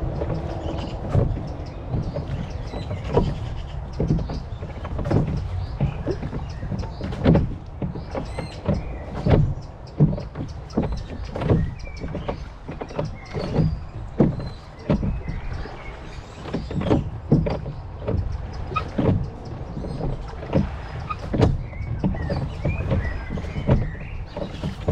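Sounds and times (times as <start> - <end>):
oars splashing in water: 0.0 - 24.9
wind rumble on microphone: 0.0 - 24.9.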